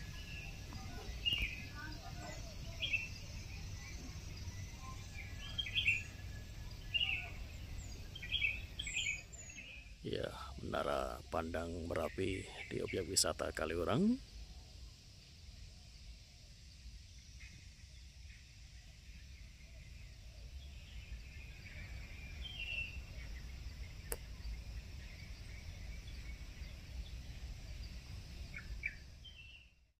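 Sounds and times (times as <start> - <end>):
birds chirping: 0.0 - 14.8, 19.2 - 29.8.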